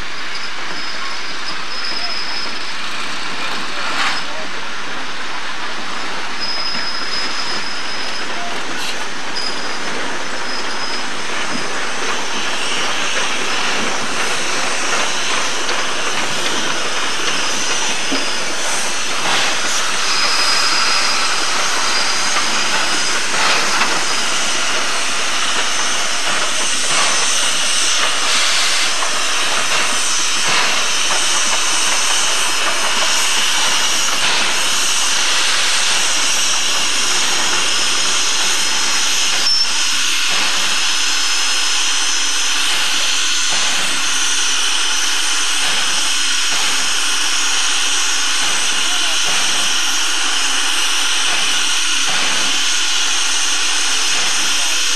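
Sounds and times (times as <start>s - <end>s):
train wheels squealing: 0.0s - 4.5s, 5.8s - 54.9s
train wheels clicking over rail joints: 0.2s - 54.9s.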